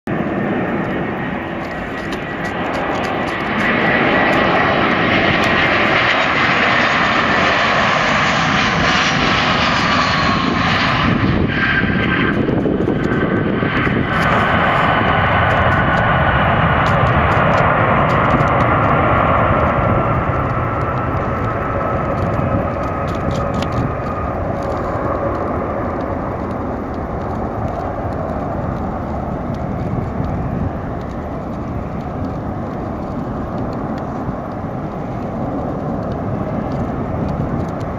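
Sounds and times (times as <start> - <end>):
jet engines roaring past: 0.1 - 37.9.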